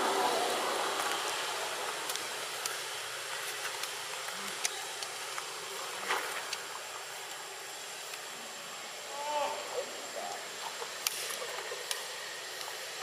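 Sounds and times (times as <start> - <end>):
high steady whine: 0.0 - 13.0
insects buzzing: 0.0 - 13.0.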